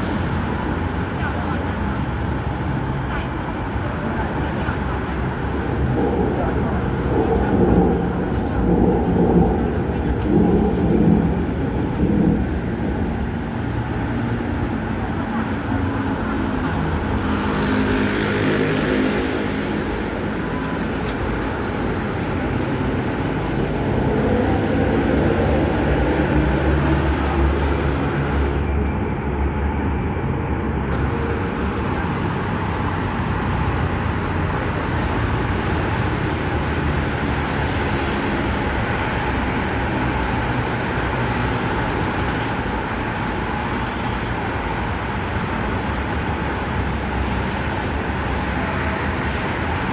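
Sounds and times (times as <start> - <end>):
vehicle rumble and hiss: 0.0 - 49.9.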